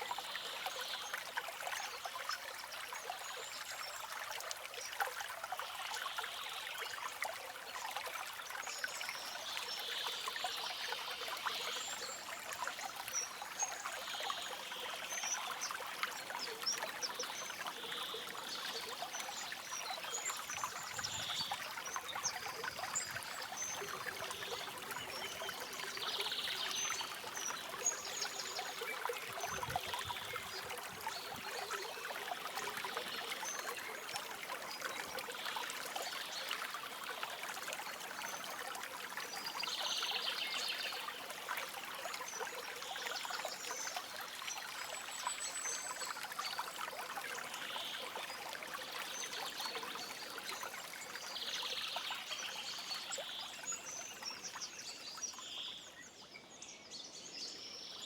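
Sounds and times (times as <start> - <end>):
stream trickling over stones: 0.0 - 56.4.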